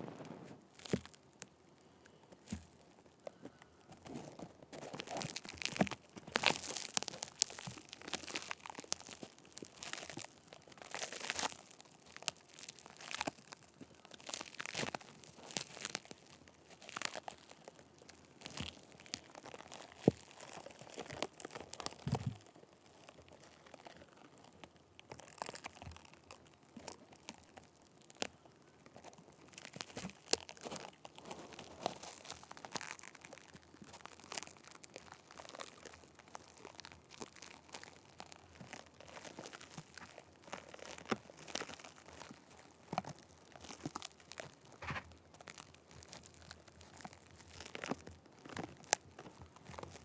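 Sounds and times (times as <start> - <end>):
sticky tape crackling on microphone: 0.0 - 1.6, 2.3 - 28.4, 29.0 - 50.0.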